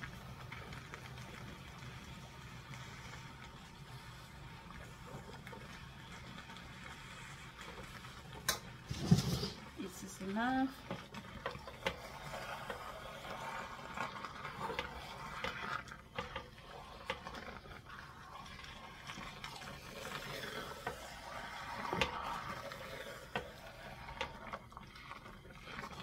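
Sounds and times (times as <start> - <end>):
wooden spoon stirring in pot: 0.0 - 26.0.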